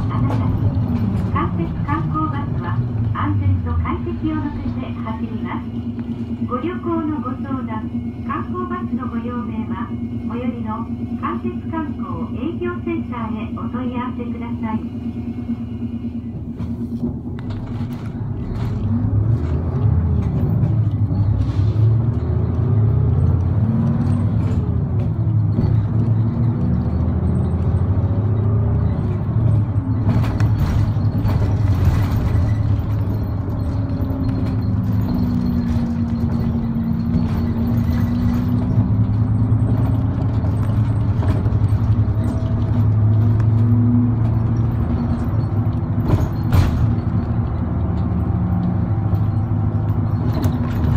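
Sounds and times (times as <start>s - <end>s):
bus engine: 0.0s - 50.9s
road rumble: 0.0s - 50.9s.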